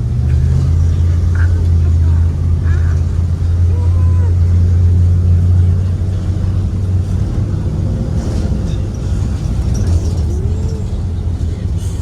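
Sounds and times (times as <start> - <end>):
bus engine droning: 0.0 - 12.0
road rumble: 0.0 - 12.0.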